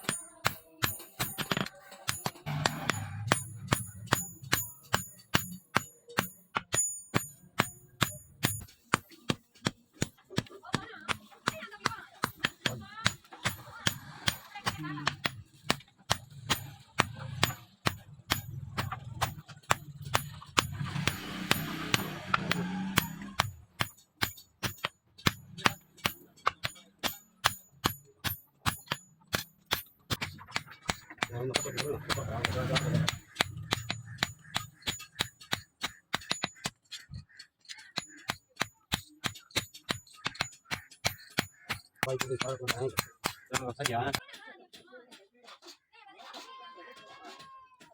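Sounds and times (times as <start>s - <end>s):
hammer ringing on steel: 0.0s - 10.2s, 11.0s - 36.8s, 37.9s - 44.2s.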